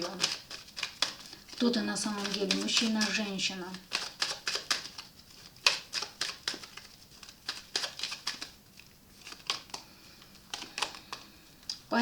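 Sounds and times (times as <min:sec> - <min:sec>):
cards shuffling and flicking: 0:00.0 - 0:11.4.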